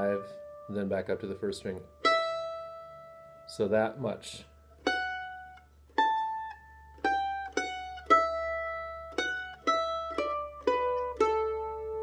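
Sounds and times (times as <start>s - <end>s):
mandolin picked notes: 0.0s - 12.0s.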